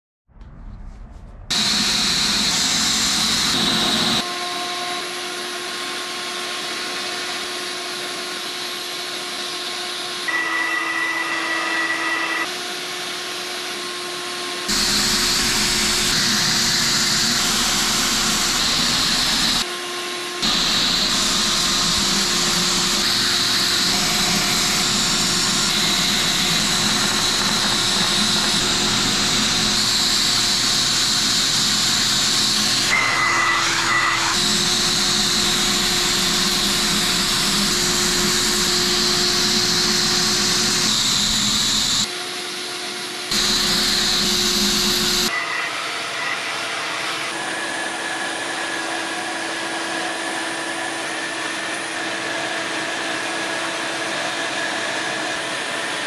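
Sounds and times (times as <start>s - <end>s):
power file motor whine: 1.5s - 56.0s.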